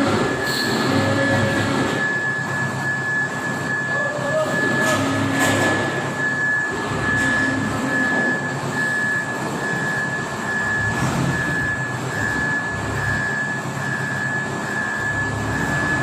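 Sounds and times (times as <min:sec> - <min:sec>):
diesel engine running: 0:00.0 - 0:16.0
high-pitched whine: 0:00.0 - 0:16.0.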